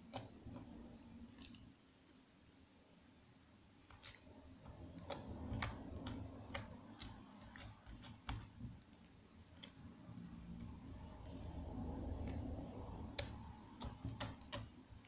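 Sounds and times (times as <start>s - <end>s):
soft rumble of handling slime: 0.0s - 15.0s.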